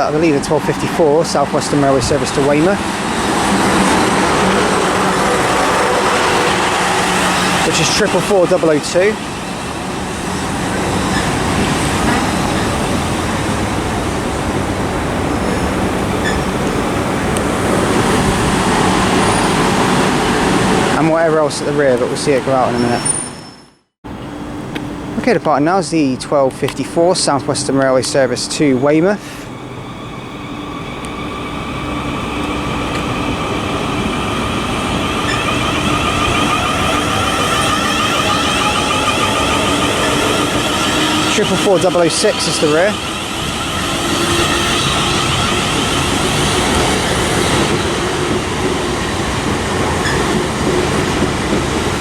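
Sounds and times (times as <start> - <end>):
train wheels rumbling: 0.0 - 23.3, 24.1 - 52.0.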